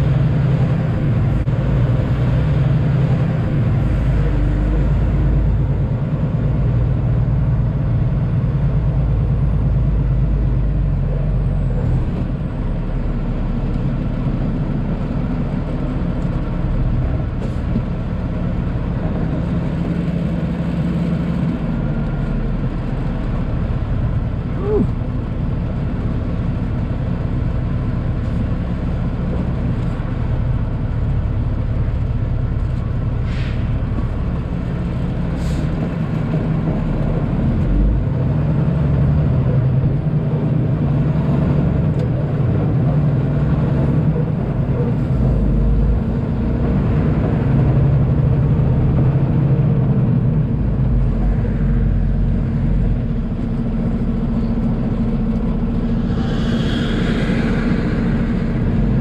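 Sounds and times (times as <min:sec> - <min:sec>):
diesel truck engine running: 0:00.0 - 0:59.0
road noise: 0:00.0 - 0:59.0.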